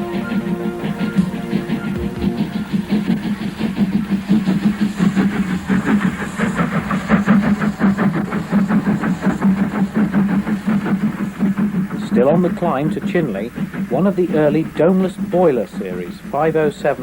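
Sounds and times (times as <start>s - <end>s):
steam locomotive exhaust beats: 0.0s - 17.0s.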